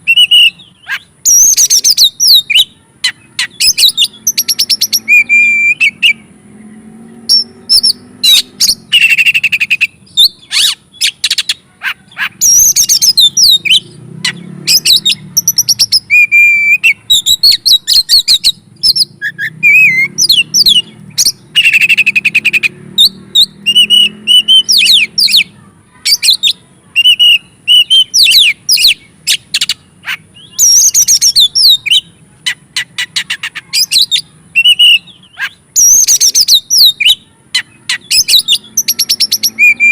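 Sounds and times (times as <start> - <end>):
songbird singing whistles and trills: 0.0 - 6.3, 7.2 - 39.9.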